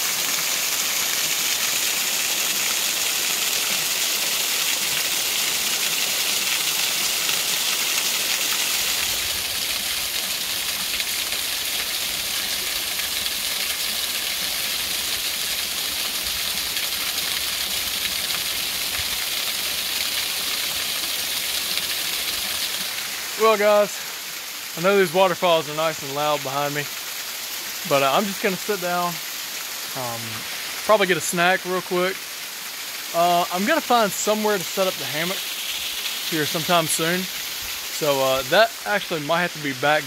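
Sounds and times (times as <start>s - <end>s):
waterfall rushing: 0.0s - 27.1s, 27.8s - 40.0s.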